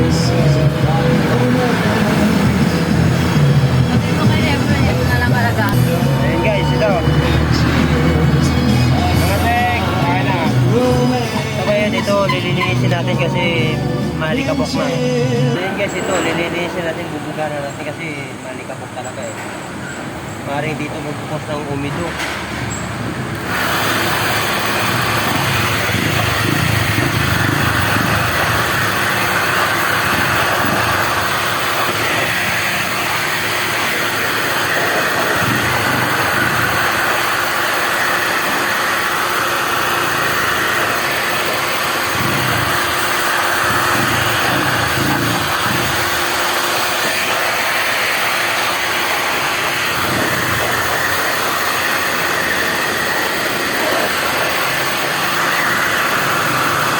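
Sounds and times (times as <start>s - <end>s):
electric blower motor whine: 0.0s - 14.3s, 23.1s - 56.9s.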